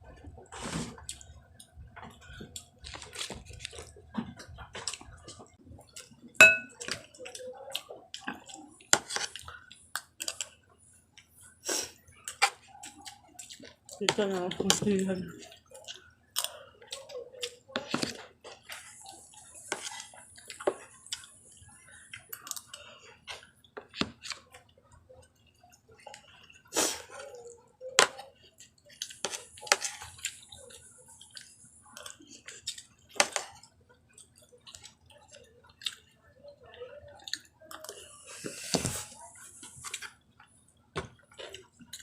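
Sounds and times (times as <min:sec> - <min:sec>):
chewing and wet smacking: 0:00.1 - 0:42.0.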